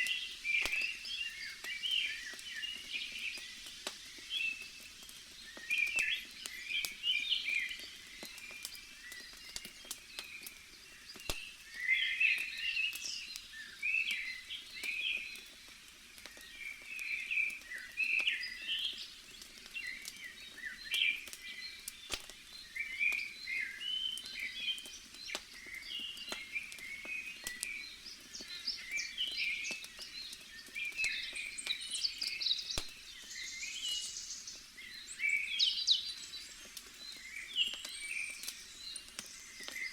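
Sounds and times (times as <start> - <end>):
campfire crackling: 0.0 - 39.9
faint hiss: 0.0 - 39.9
small birds chirping: 0.0 - 39.9.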